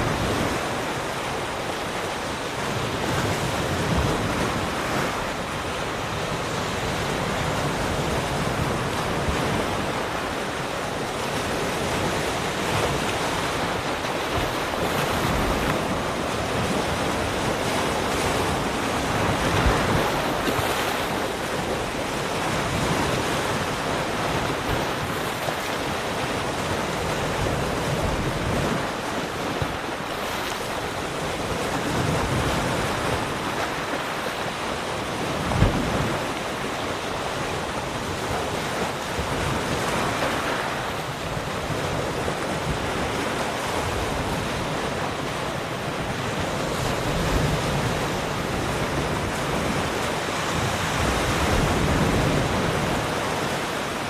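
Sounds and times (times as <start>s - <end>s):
ocean surf washing: 0.0s - 54.0s
wind: 0.0s - 54.0s.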